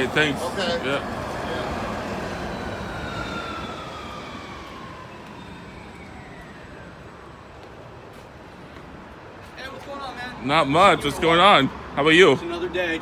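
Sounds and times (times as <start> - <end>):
passing vehicle whine: 0.0 - 13.0.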